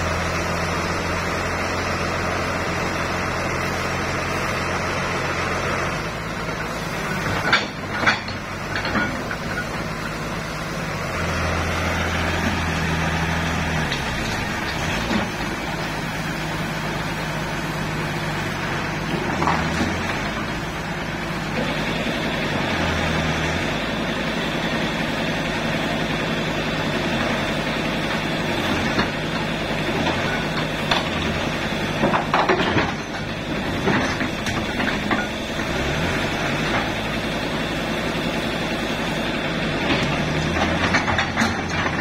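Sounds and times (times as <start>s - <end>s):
heavy diesel engine running: 0.0s - 42.0s.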